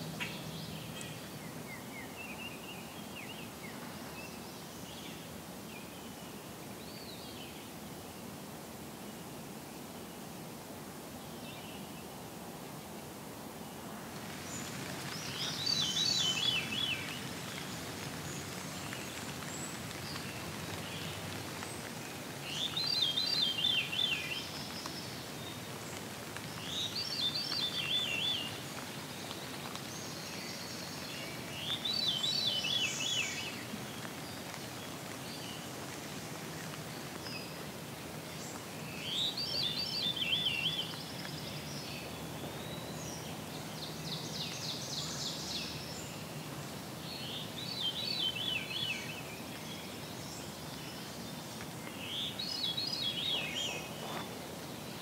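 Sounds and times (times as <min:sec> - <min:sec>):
low background noise: 0:00.0 - 0:55.0.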